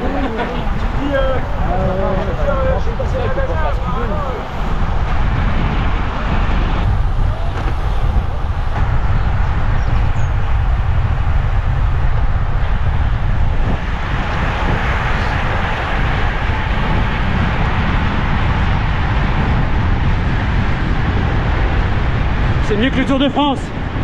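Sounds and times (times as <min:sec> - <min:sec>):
wind rush on microphone: 0:00.0 - 0:24.0.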